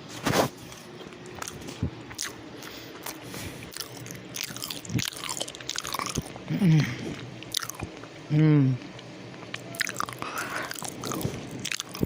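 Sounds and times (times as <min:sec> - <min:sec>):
person chewing noodles: 0:00.7 - 0:08.1, 0:08.8 - 0:12.0.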